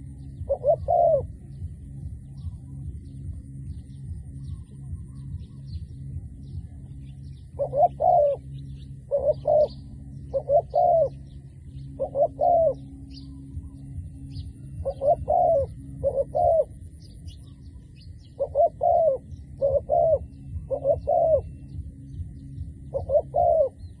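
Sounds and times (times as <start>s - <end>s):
dove cooing: 0.0s - 24.0s
small birds chirping: 0.0s - 24.0s
steady low hum: 0.0s - 24.0s.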